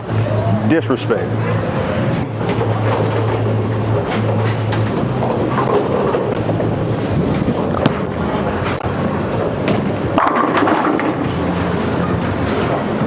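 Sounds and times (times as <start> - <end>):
bowling ball rolling: 1.3 - 13.0.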